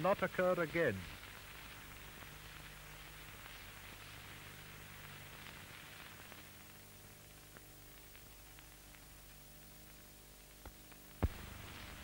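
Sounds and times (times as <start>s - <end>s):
low electrical hum: 0.0s - 12.0s
tape hiss: 0.0s - 12.0s.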